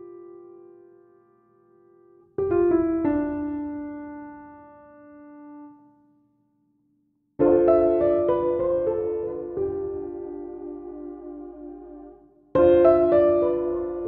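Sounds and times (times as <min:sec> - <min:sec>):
piano chords: 0:00.0 - 0:05.8, 0:07.4 - 0:14.0.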